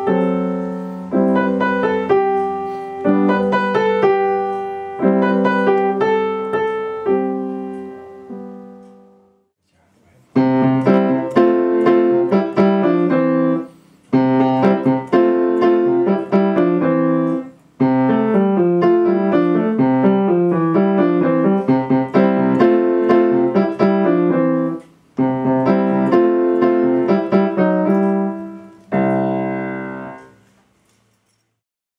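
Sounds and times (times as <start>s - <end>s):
piano piece: 0.0s - 9.6s, 10.3s - 30.5s.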